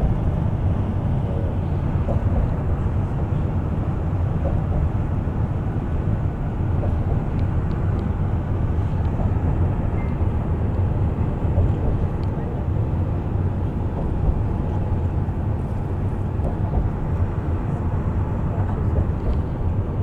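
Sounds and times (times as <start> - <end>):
bus engine and tyre rumble: 0.0 - 20.0.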